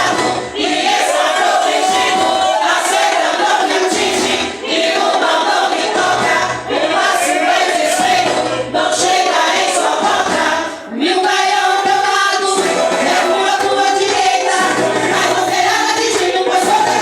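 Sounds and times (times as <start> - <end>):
backing track music: 0.0 - 17.0
women singing a hymn: 0.0 - 17.0.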